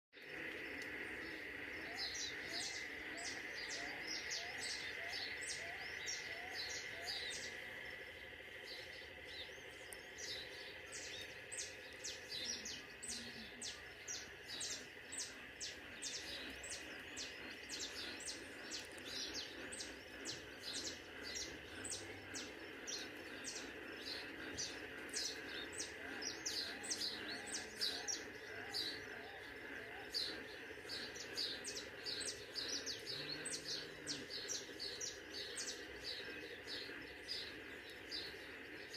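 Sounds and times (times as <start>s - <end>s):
birds chirping: 0.2s - 38.9s
steady high hum: 0.2s - 38.9s.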